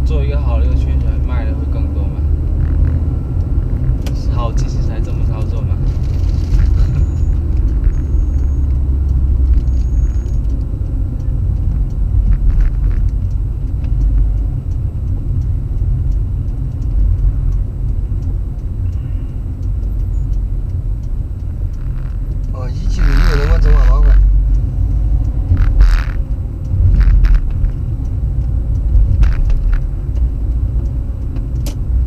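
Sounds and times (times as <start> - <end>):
car engine rumble: 0.0 - 32.0
road noise: 0.0 - 32.0.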